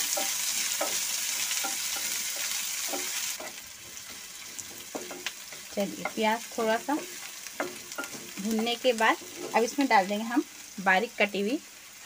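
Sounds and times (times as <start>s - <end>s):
onions sizzling in oil: 0.0s - 12.0s
wooden spatula scraping pan: 0.1s - 10.2s.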